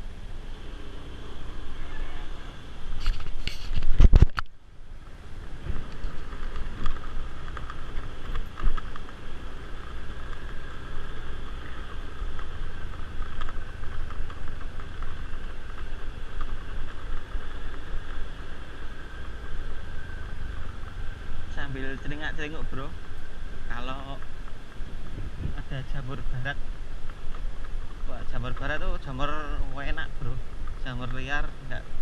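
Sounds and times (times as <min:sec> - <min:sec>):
vehicle engine rumbling: 0:00.0 - 0:32.0
wind and road noise: 0:00.0 - 0:32.0.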